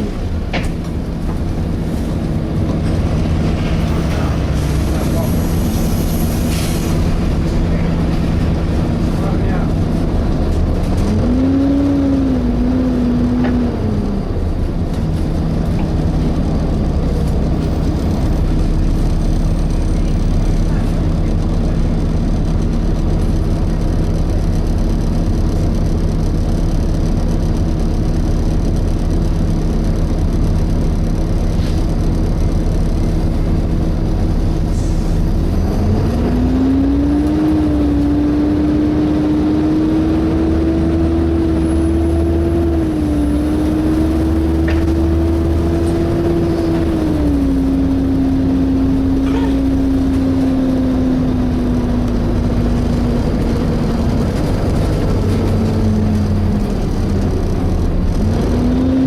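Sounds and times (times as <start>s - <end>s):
bus engine hum: 0.0s - 59.0s.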